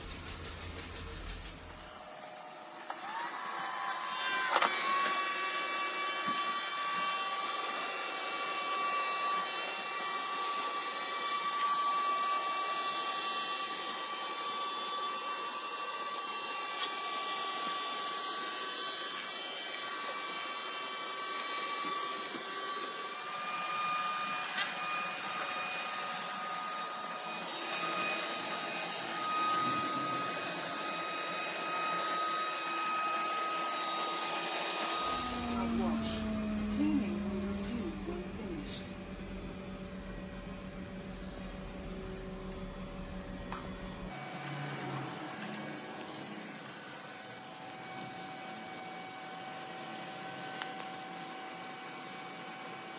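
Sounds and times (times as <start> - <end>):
robot vacuum running: 0.0 - 52.9.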